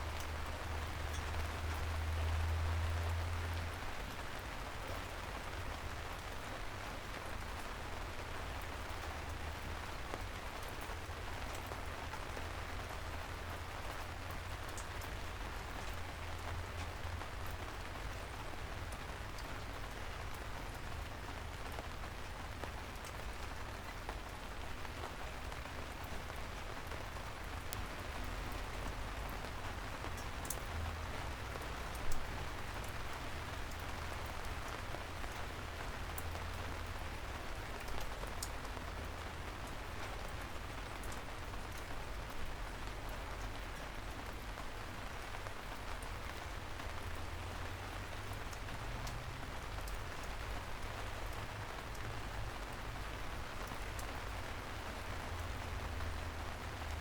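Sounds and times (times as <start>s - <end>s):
soft rain on pavement: 0.0s - 57.0s.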